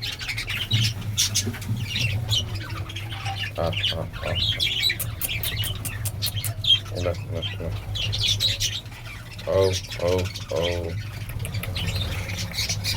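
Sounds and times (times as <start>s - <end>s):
birds squawking and chirping: 0.0s - 12.9s.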